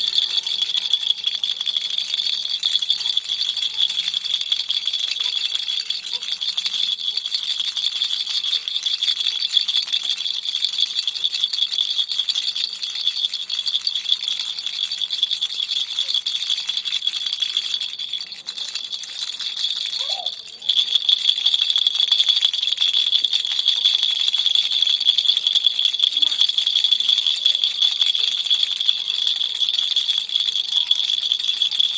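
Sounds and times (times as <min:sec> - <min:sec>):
toy rattle shaken: 0:00.0 - 0:31.9.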